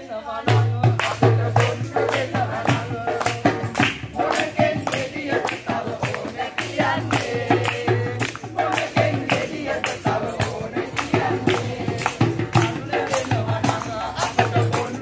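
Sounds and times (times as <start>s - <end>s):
percussion beat: 0.1s - 15.0s
hand clapping: 1.0s - 15.0s.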